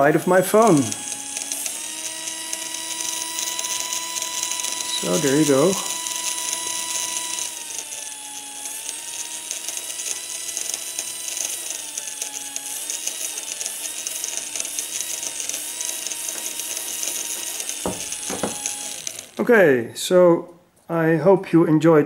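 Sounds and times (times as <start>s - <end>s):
small motor whining: 0.0s - 19.5s.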